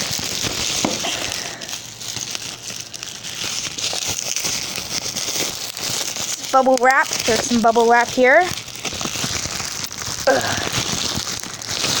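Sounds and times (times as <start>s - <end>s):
package crinkling and rustling: 0.0s - 12.0s
small crackles: 0.0s - 12.0s.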